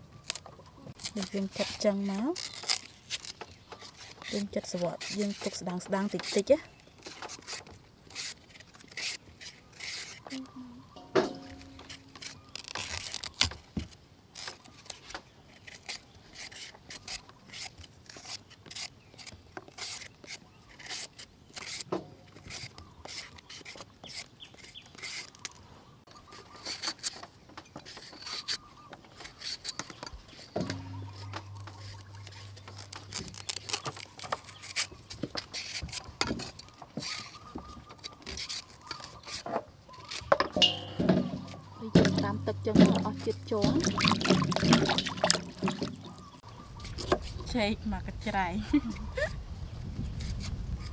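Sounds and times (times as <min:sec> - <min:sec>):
vegetable peeler scraping: 0:00.2 - 0:10.5, 0:11.3 - 0:13.7, 0:14.3 - 0:25.6, 0:26.3 - 0:27.2, 0:27.8 - 0:47.5.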